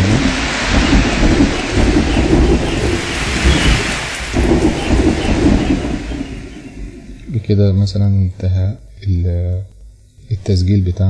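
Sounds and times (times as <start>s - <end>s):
rolling thunder: 0.0s - 8.9s
rain hissing: 0.0s - 11.0s.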